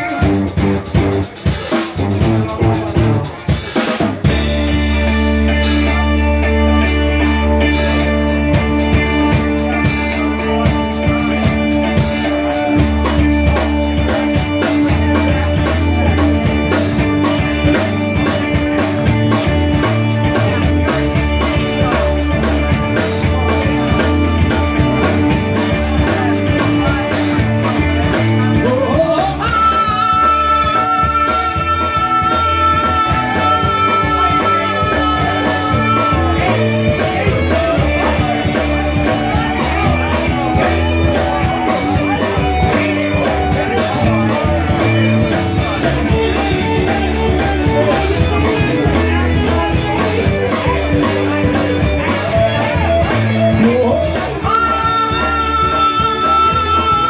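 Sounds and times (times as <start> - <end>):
live rock band playing: 0.0 - 57.0
man singing: 0.0 - 57.0.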